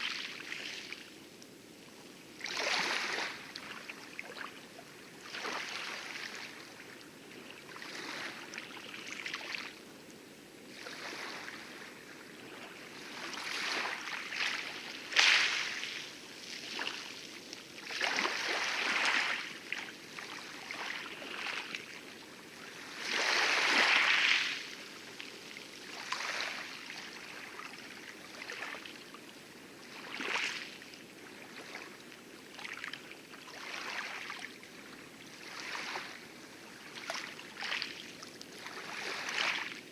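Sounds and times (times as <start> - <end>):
distant surf hiss: 0.0 - 39.9
waves lapping against coral: 0.0 - 39.9.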